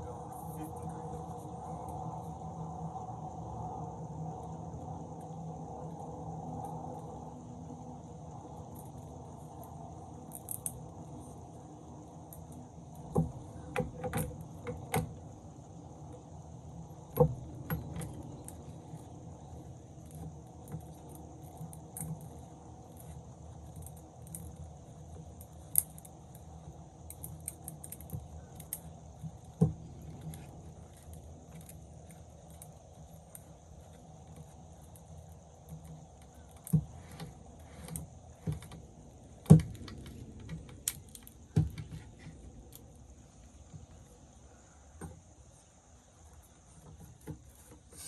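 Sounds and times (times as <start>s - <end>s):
faint high insect-like drone: 0.0s - 48.0s
steady low hum: 0.0s - 48.0s.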